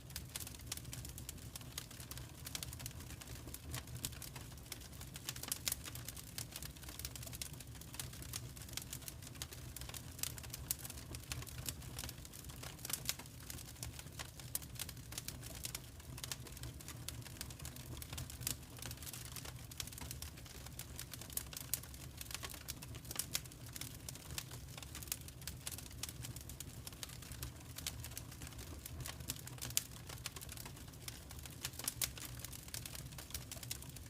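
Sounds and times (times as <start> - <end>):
wood fire snapping and popping: 0.0 - 34.0.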